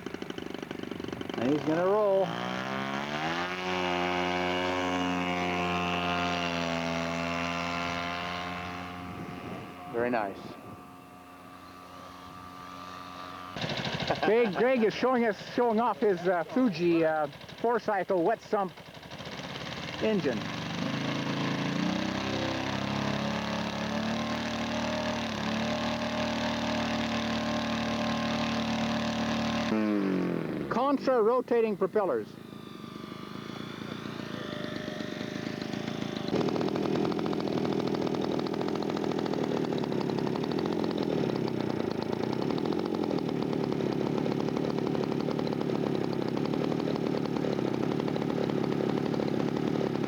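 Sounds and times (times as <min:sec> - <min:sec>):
model airplane engine: 0:00.0 - 0:50.0.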